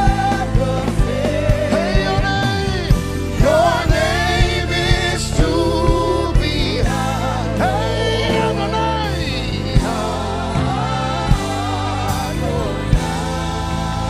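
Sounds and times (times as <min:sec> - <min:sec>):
bass: 0:00.0 - 0:14.0
keyboard chords: 0:00.0 - 0:14.0
melodic lead with vibrato: 0:00.0 - 0:14.0
steady drum beat: 0:00.0 - 0:14.0.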